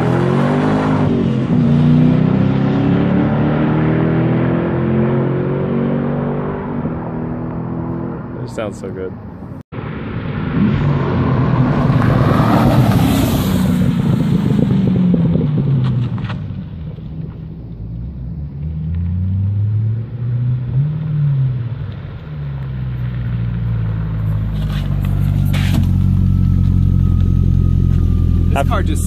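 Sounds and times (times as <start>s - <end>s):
car engine revving and rumbling: 0.0s - 29.0s.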